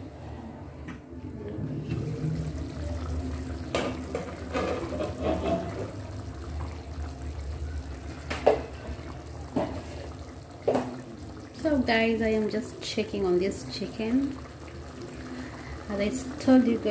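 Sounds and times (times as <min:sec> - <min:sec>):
thick sauce bubbling: 0:01.9 - 0:16.9.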